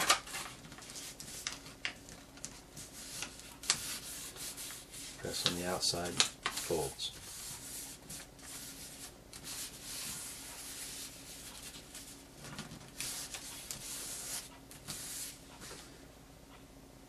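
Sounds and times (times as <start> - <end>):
paper rustling on a tabletop: 0.0 - 15.9.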